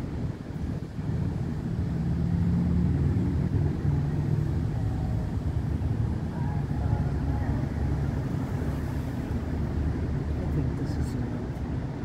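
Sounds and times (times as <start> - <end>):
vehicle engine driving on sand: 0.0 - 12.0.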